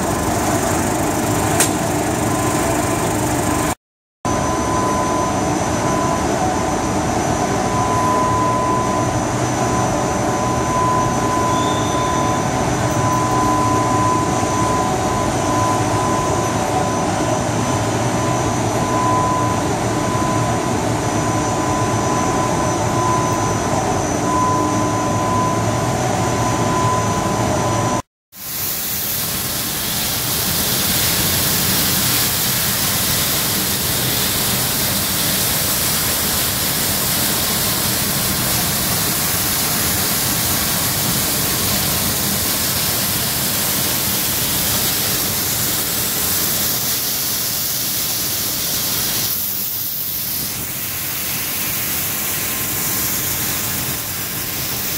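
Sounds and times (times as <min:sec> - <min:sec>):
machinery humming and whining: 0:00.0 - 0:28.0, 0:29.2 - 0:47.5.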